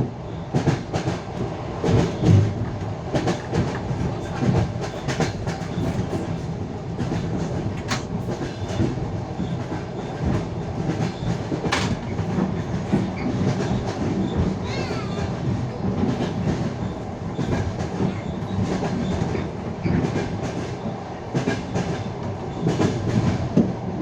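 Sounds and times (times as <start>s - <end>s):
train carriage rumble: 0.0s - 24.0s
train wheels clacking: 0.5s - 23.8s.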